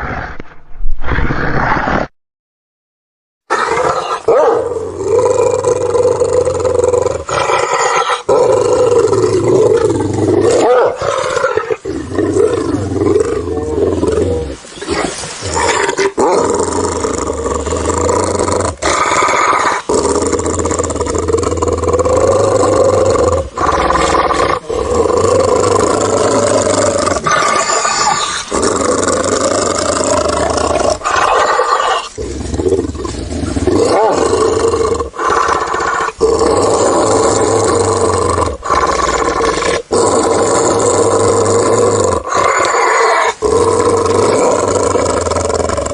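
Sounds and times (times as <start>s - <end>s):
large beast roaring and growling: 3.5s - 14.6s, 15.5s - 45.9s.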